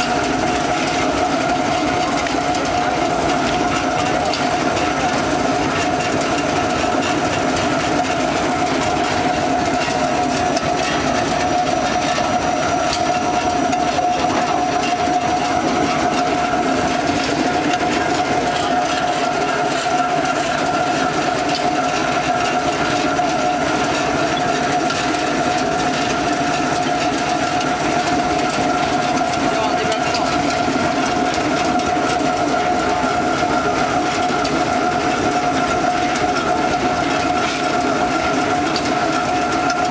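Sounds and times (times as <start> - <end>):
dense rattling clatter: 0.0 - 39.9
pellet mill droning: 0.0 - 39.9
steady mechanical whine: 0.0 - 39.9.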